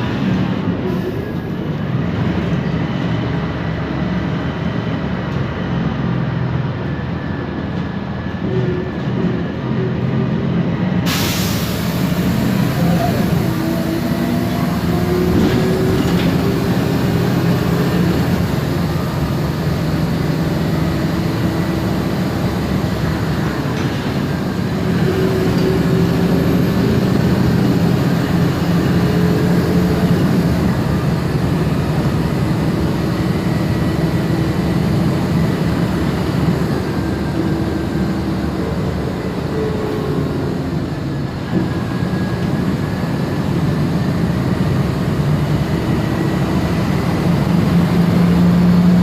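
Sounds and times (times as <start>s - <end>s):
bus engine running: 0.0s - 49.0s.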